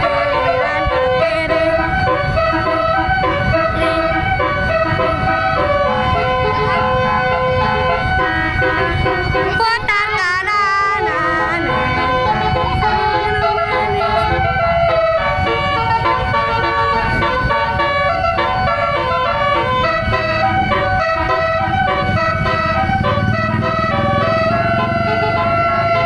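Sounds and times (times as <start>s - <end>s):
multi-tone bus horn melody: 0.0s - 26.0s.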